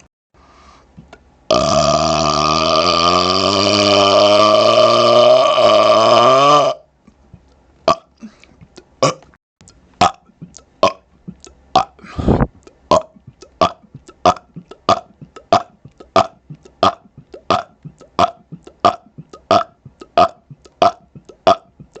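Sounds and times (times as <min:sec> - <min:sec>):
man burping: 0:01.5 - 0:06.8, 0:07.9 - 0:08.3, 0:09.0 - 0:09.4, 0:10.0 - 0:22.0.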